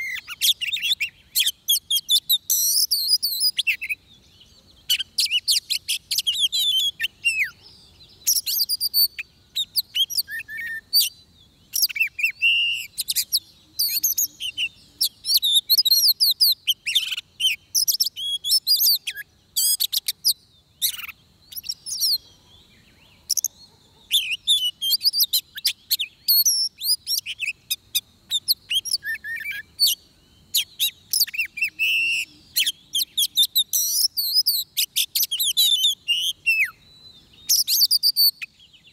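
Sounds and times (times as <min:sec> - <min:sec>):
bird singing whistled phrases: 0:00.0 - 0:04.0, 0:04.9 - 0:22.3, 0:23.0 - 0:38.9.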